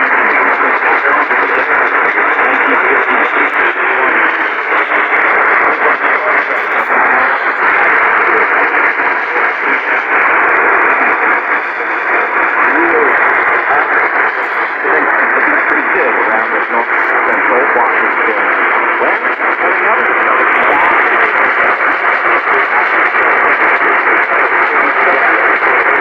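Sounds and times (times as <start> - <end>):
loud radio static hiss: 0.0 - 26.0.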